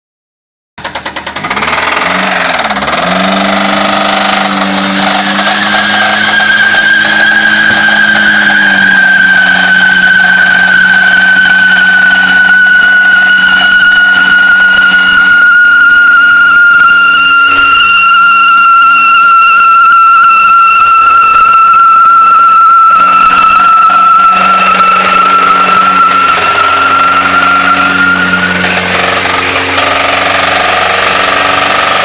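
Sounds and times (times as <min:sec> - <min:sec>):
car engine revving with rod knock: 0:00.8 - 0:18.2, 0:23.0 - 0:32.0
tyre squeal: 0:01.2 - 0:32.0.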